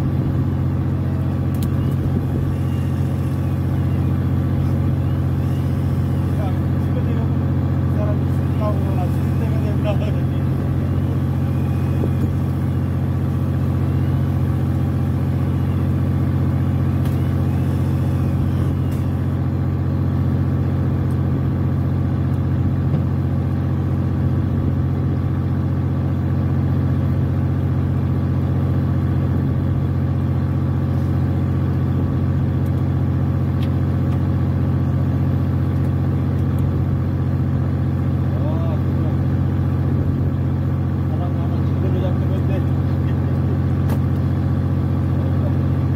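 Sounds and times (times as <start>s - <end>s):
boat engine drone: 0.0s - 45.9s.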